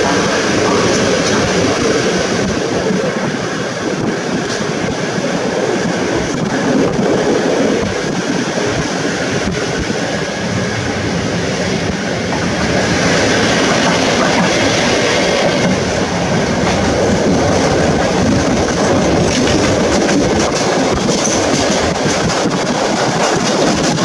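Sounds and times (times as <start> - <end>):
train coach rolling on track: 0.0 - 24.0.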